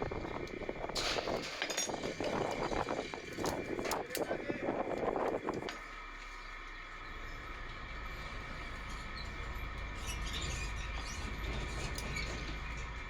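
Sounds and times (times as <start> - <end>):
machine whining and rumbling: 0.0 - 13.0.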